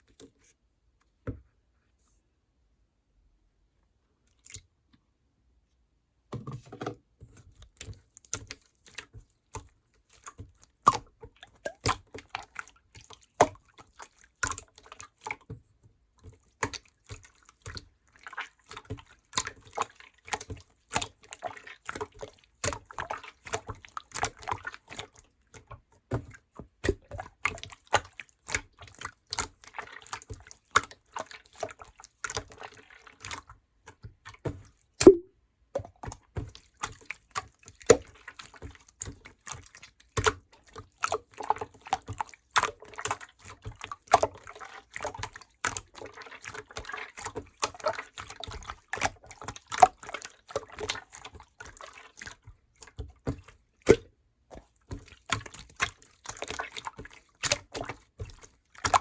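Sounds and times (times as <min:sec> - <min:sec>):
wet clicks and drips of peach: 0:04.2 - 0:04.7, 0:07.6 - 0:15.6, 0:16.2 - 0:59.0.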